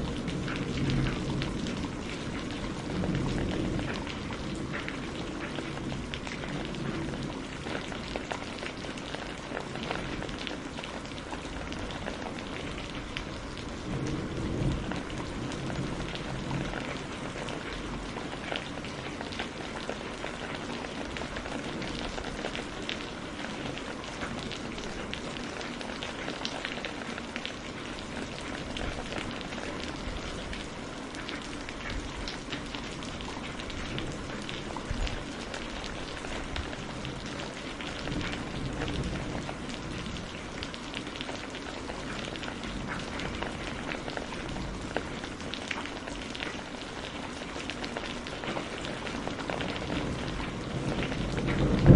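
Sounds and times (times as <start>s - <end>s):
steady rain pattering: 0.0s - 51.9s.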